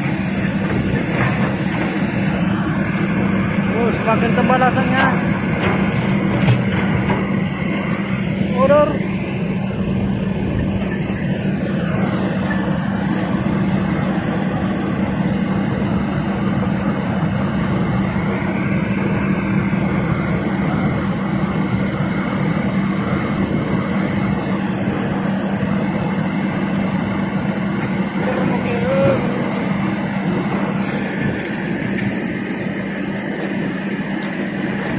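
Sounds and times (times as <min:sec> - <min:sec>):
diesel engine under heavy load: 0:00.0 - 0:34.9.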